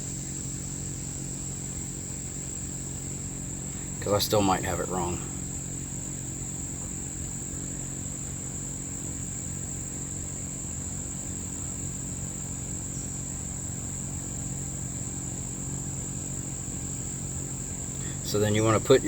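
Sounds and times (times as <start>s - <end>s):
crickets chirring: 0.0s - 19.0s
low steady hum: 0.0s - 19.0s.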